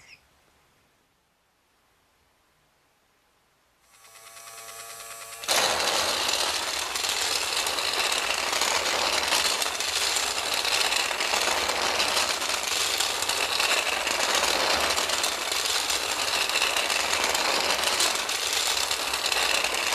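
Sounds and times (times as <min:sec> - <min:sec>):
toy train motor whirring: 0:03.8 - 0:19.9.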